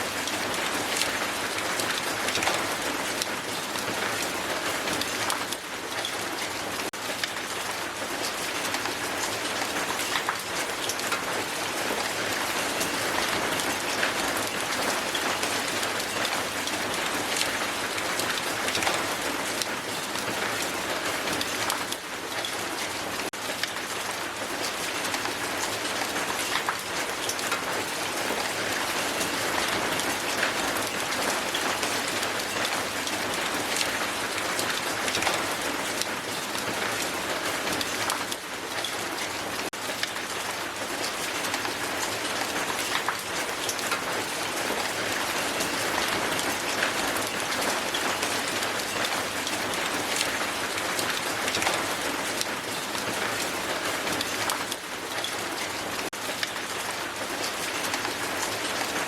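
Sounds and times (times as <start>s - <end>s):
hail falling on ground: 0.0s - 59.0s.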